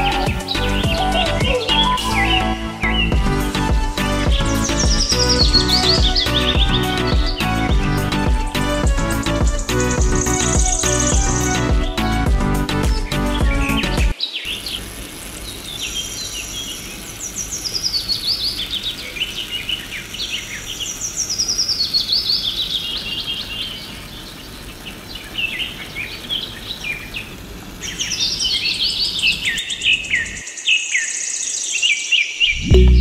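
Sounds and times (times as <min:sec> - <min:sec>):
high insect-like buzz: 0:00.0 - 0:30.6
songbirds chirping and trilling: 0:00.0 - 0:33.0.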